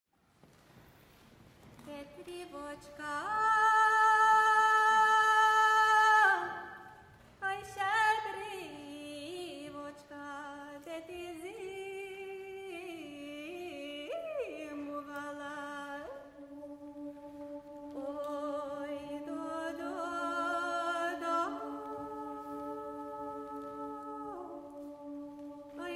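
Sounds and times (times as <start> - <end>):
women's choir singing folk song: 1.9 - 25.9.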